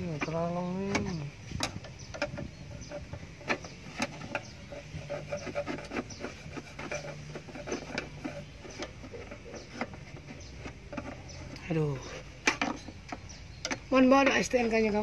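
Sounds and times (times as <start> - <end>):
wooden stick scraping and tapping plastic: 0.0 - 15.0.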